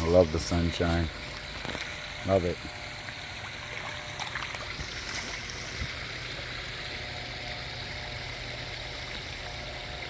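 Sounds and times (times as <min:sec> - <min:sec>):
waterfall splashing into pond: 0:00.0 - 0:10.0.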